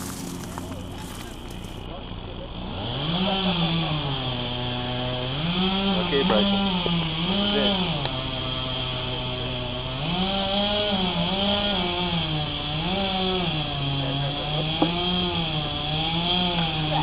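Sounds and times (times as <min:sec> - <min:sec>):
chainsaw cutting into a tree: 0:00.0 - 0:17.0.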